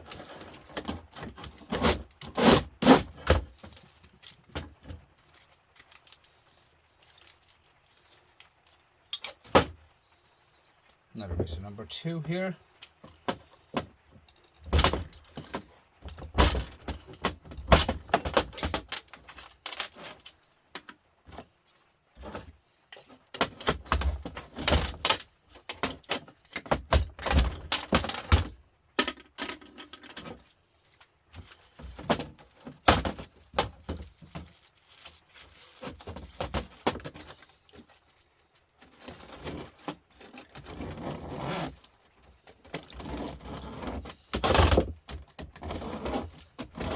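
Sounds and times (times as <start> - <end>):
metal parts clinking and rattling: 0.0 - 9.9, 12.8 - 46.9.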